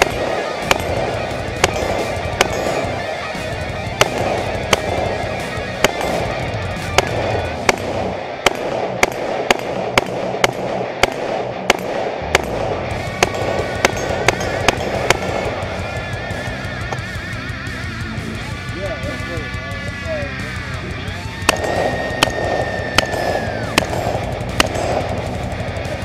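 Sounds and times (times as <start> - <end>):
rifle shots: 0.0 - 17.8, 21.4 - 26.0
background music: 0.0 - 26.0.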